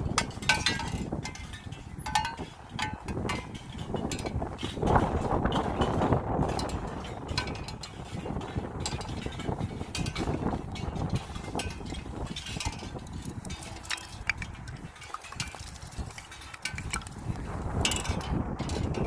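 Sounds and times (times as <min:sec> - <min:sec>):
footsteps outdoors: 0:00.0 - 0:19.0
handling noise clicks and scuffs: 0:00.0 - 0:19.0
steady low rumble: 0:00.0 - 0:19.0.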